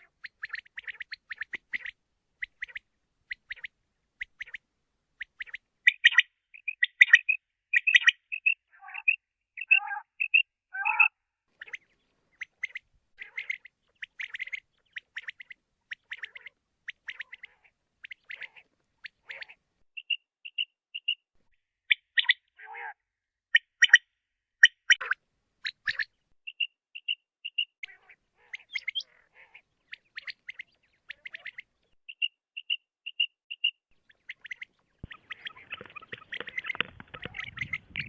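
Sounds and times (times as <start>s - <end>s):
quail calling: 0.0s - 4.6s, 5.2s - 21.2s, 21.9s - 23.0s, 24.6s - 38.0s.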